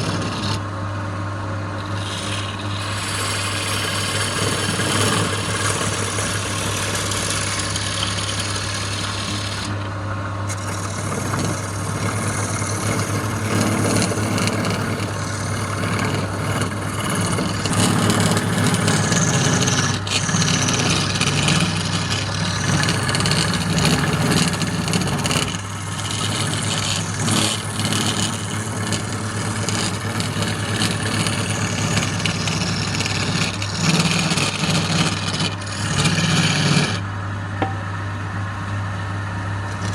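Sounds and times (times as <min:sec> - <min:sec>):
turning tool scraping wood: 0:00.0 - 0:37.1, 0:39.6 - 0:39.9
wood lathe motor humming: 0:00.0 - 0:37.8, 0:39.4 - 0:39.9.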